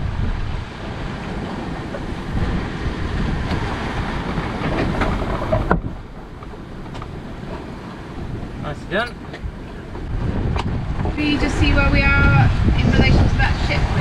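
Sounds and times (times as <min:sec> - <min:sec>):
sea rushing past hull: 0:00.0 - 0:14.0
wind buffeting microphone: 0:00.0 - 0:14.0.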